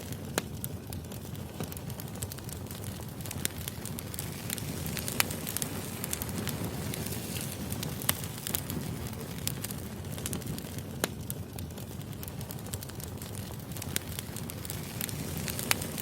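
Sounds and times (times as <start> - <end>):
firewood burning and crackling: 0.0 - 16.0.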